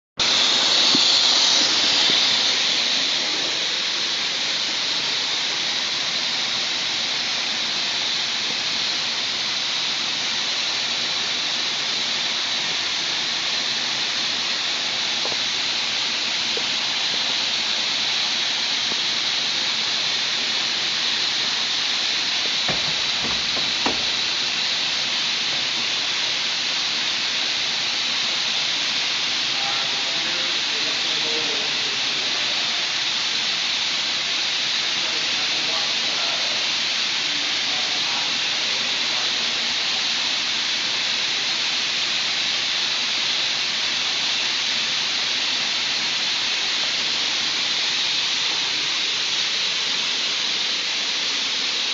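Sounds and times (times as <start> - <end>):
loud rushing hiss: 0.2 - 51.9.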